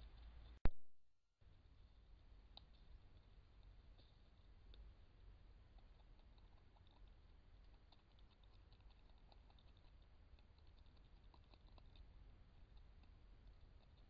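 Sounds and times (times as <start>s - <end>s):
low steady hum: 0.0s - 0.7s, 1.4s - 14.0s
beaver gnawing bark: 1.6s - 14.0s.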